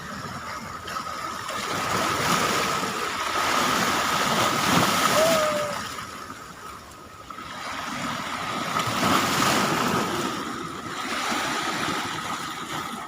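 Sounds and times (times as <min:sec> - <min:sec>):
sea waves breaking on shore: 0:00.0 - 0:13.0.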